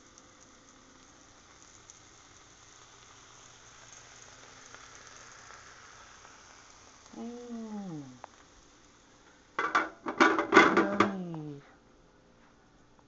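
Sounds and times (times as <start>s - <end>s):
meat sizzling on a grill: 0.0s - 11.6s.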